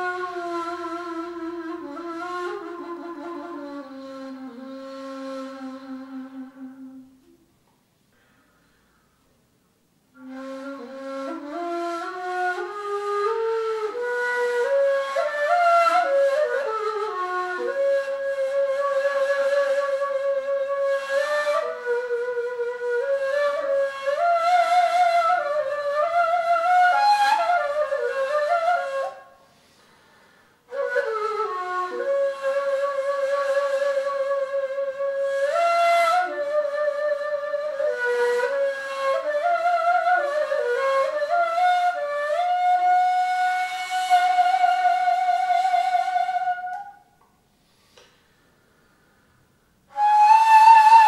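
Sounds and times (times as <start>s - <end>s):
breathy flute melody: 0.0s - 7.5s, 10.1s - 47.2s, 49.9s - 51.0s.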